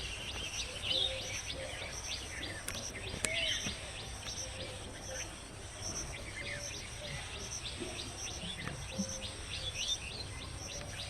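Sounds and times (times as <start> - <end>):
birds chirping: 0.0 - 11.0
outdoor background hiss: 0.0 - 11.0.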